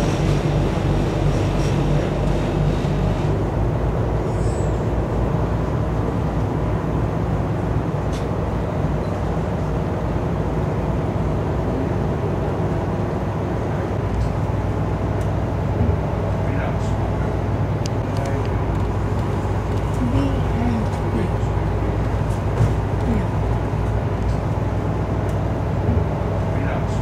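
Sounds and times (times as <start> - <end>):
boat engines droning: 0.0 - 27.0.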